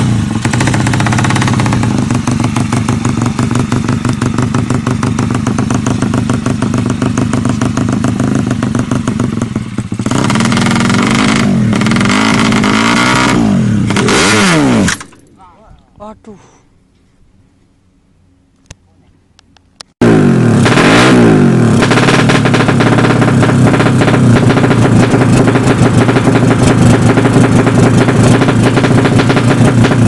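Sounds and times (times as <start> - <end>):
motorcycle engine revving: 0.0 - 15.3, 20.0 - 30.0.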